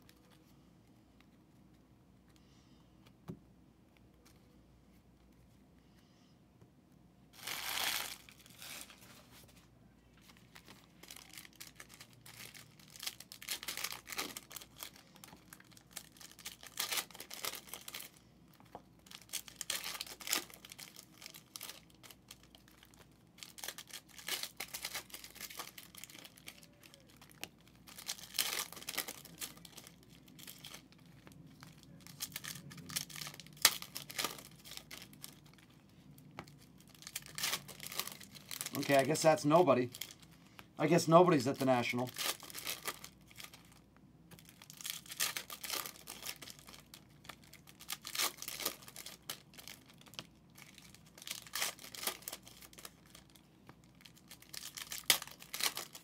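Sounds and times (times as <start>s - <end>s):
plastic wrap tearing and crinkling: 7.3s - 9.4s, 10.2s - 18.2s, 19.0s - 35.8s, 36.5s - 56.0s.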